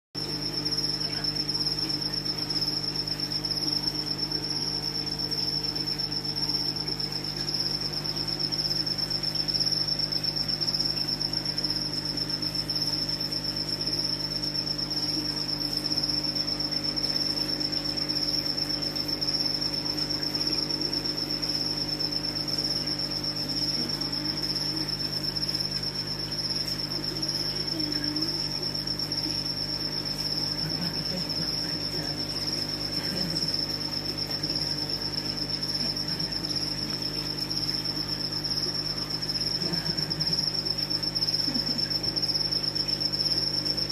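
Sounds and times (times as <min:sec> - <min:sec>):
high-pitched cricket-like trill: 0:00.2 - 0:43.9.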